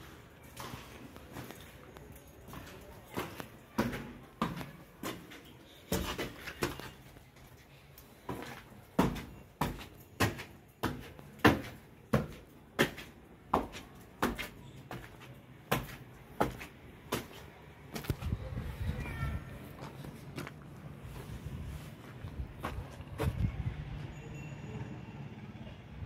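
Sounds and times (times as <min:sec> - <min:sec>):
footsteps on concrete floor: 0:00.0 - 0:24.1.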